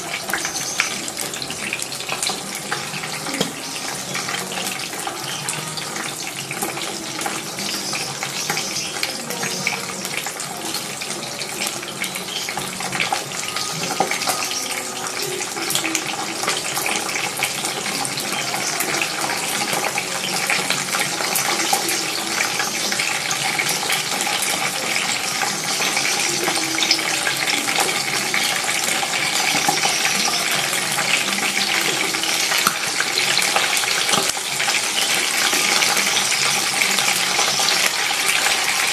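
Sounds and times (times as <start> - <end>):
fish sizzling in hot oil: 0.0 - 38.9.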